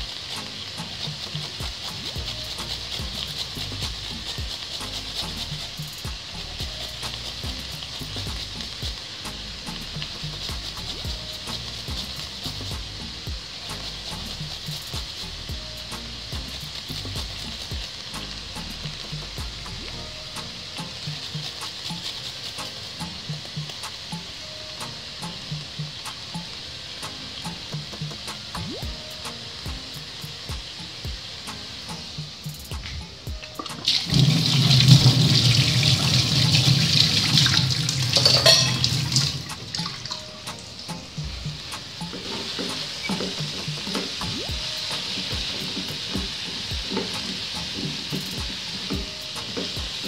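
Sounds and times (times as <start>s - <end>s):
water running into steel sink: 0.0s - 24.4s, 27.2s - 50.0s
steady hiss: 0.0s - 50.0s.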